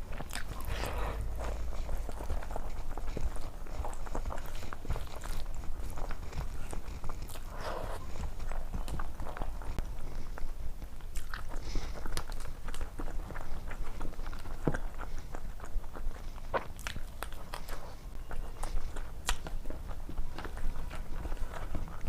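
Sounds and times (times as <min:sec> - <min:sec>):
person chewing crunchy food: 0:00.0 - 0:22.0.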